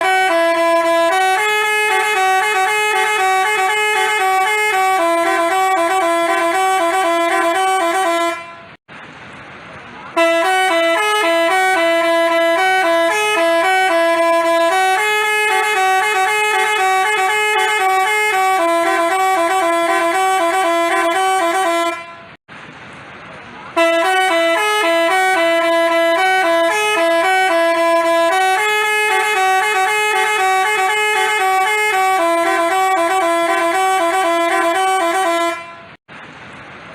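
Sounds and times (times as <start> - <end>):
bus air horn playing a jingle: 0.0 - 8.8, 10.2 - 22.4, 23.8 - 36.0.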